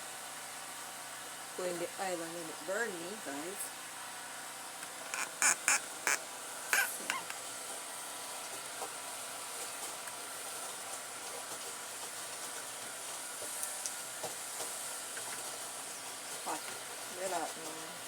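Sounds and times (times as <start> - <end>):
oil hissing in a pot: 0.0 - 18.0.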